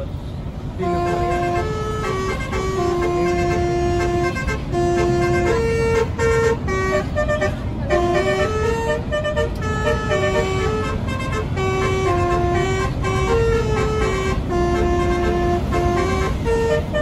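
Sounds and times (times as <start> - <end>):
bus engine and road rumble: 0.0 - 17.0
multi-tone bus horn tune: 0.0 - 17.0.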